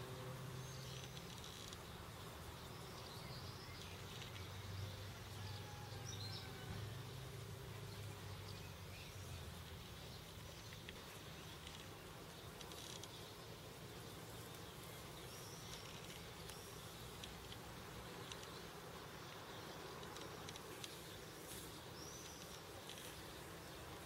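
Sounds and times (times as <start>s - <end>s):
insect buzz: 0.0s - 24.0s.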